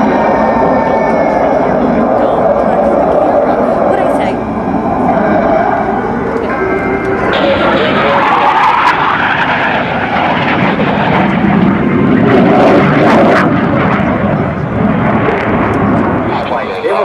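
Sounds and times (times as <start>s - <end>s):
jet roar flying past: 0.0s - 17.0s.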